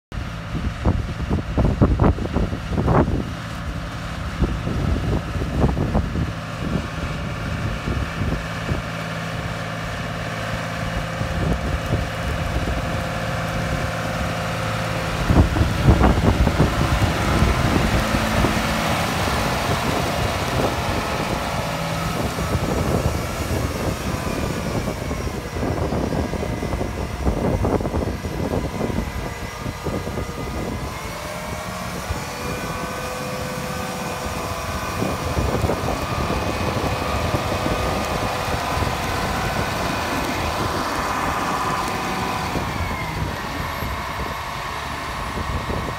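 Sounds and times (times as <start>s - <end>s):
tractor diesel engine passing: 0.2s - 45.9s
wind buffeting microphone: 0.2s - 45.9s.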